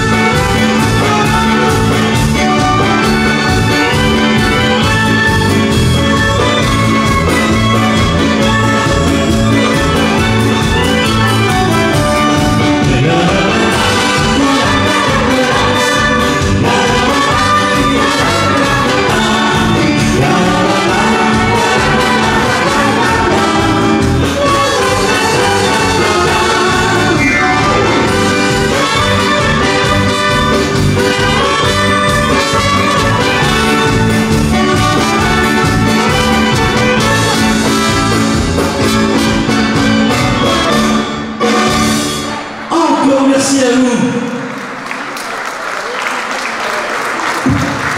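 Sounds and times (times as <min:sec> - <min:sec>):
live dance band playing: 0:00.0 - 0:44.9.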